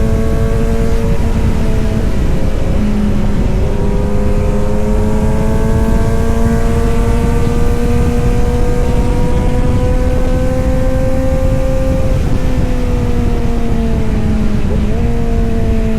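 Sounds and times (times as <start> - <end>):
motorcycle engine under load: 0.0 - 15.9.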